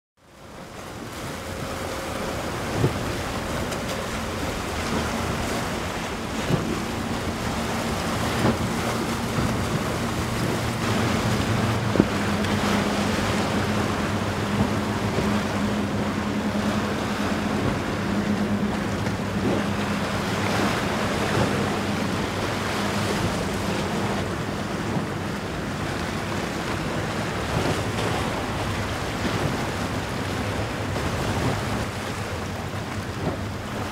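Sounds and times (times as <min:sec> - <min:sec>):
boat engine drone: 0:00.2 - 0:33.9
churning water and waves: 0:00.2 - 0:33.9
wind buffeting microphone: 0:00.5 - 0:33.9.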